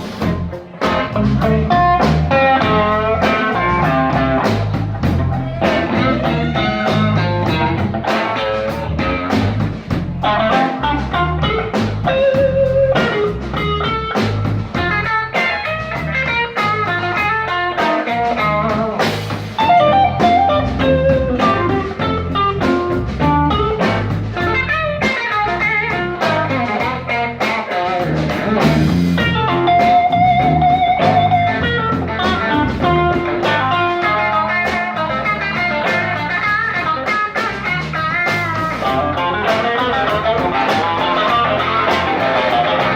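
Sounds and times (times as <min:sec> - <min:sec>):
blues band playing: 0:00.0 - 0:42.9
steady drum beat: 0:00.0 - 0:42.9.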